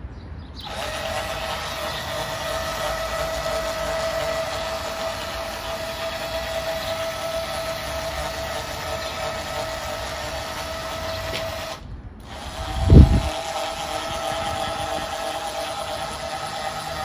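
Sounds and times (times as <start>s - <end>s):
electric motor whining: 0.6s - 17.0s.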